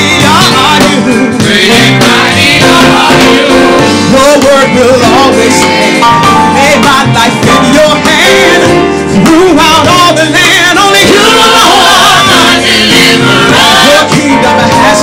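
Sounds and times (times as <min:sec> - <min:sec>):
gospel singing with band: 0:00.0 - 0:15.0.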